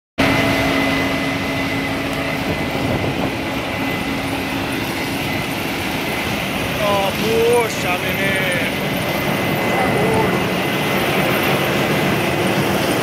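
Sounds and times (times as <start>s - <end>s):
combine harvester running: 0.2s - 13.0s
low hum: 0.2s - 13.0s.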